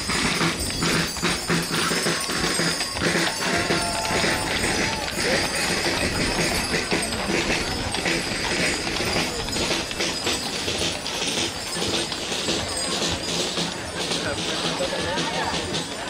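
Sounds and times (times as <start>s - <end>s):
crowd murmuring: 0.0s - 16.0s
horse hooves clip-clopping on road: 0.0s - 16.0s.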